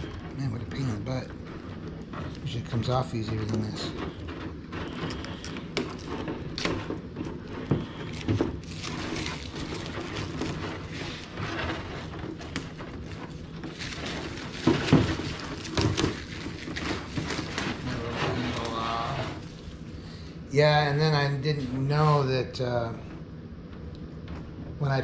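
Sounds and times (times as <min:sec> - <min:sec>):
plastic film crinkling: 0:00.0 - 0:20.1.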